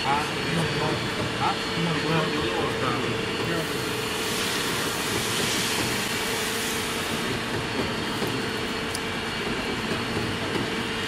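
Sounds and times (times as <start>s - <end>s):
mixing mill motor humming: 0.0s - 11.0s.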